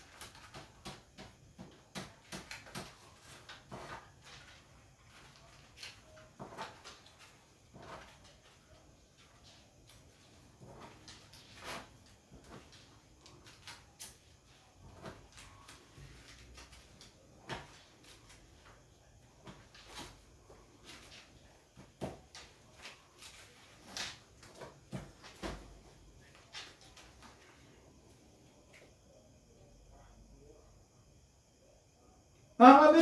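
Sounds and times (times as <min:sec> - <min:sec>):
papers rustling: 0:00.0 - 0:27.9.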